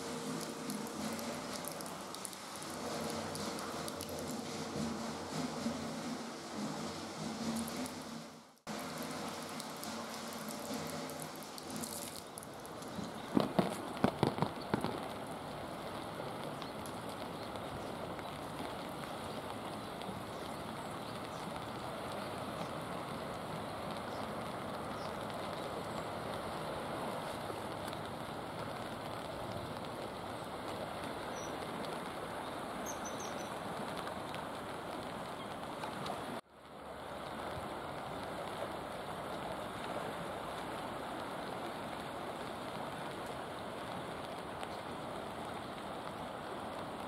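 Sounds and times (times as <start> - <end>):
steady rain on pavement: 0.0 - 47.0.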